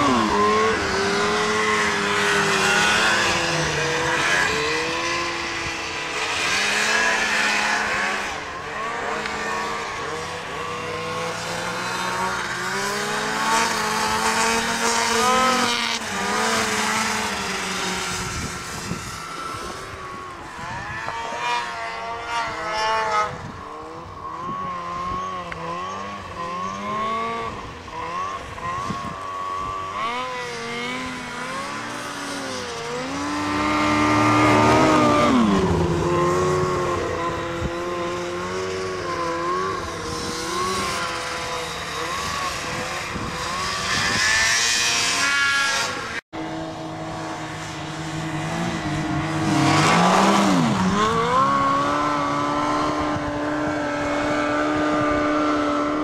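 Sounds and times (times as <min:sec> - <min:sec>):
snowmobile engines revving: 0:00.0 - 0:56.0.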